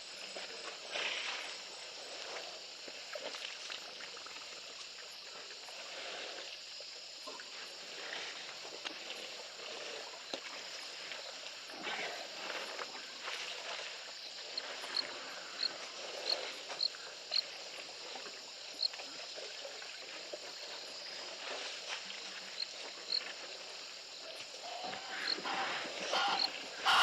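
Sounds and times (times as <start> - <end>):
water sloshing and splashing: 0.2 - 27.0.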